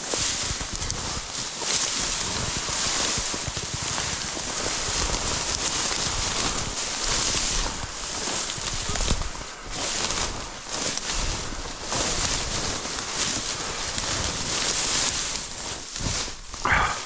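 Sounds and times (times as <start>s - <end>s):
footsteps through dry grass: 0.0s - 17.0s.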